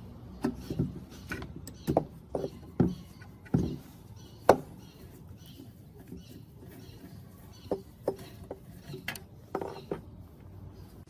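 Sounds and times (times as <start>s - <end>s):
hand tools clicking and knocking: 0.4s - 4.8s, 5.6s - 10.2s.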